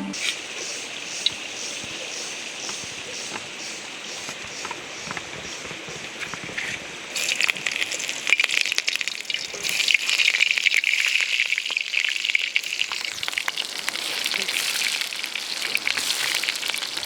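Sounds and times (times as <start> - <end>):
chicken frying in hot oil: 0.3 - 5.0, 7.1 - 17.0.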